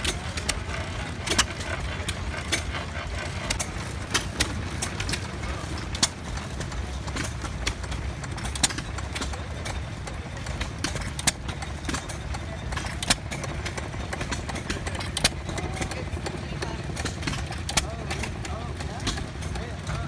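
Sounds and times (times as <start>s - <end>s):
gas engines rumbling: 0.0s - 20.0s.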